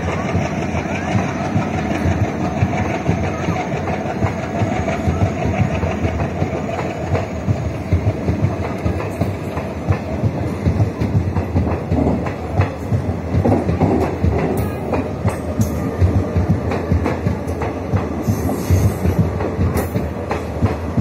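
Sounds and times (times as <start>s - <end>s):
train passing at speed: 0.0s - 21.0s
wheels clacking over rail joints: 0.0s - 21.0s.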